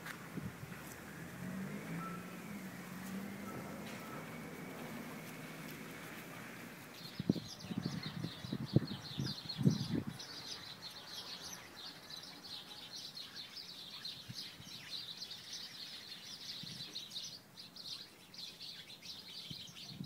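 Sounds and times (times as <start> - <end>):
flock of small birds chirping: 0.0 - 20.0.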